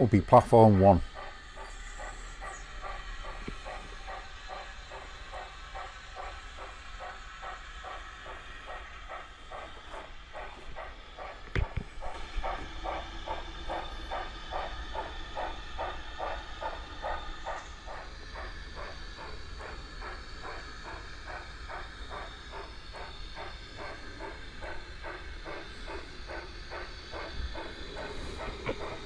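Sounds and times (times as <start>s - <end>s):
model train running on track: 0.0s - 29.0s.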